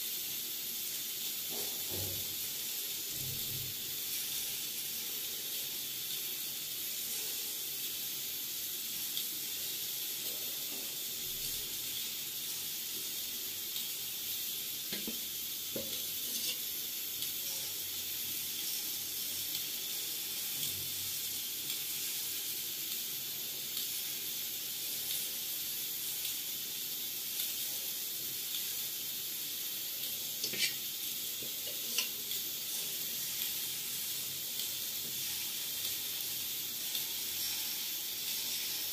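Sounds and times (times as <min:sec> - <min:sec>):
batter sizzling in pan: 0:00.0 - 0:38.9.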